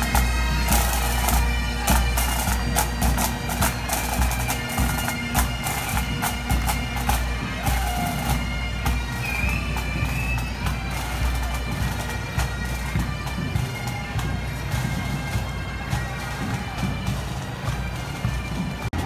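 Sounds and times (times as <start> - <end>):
bagpipes playing: 0.0 - 19.0.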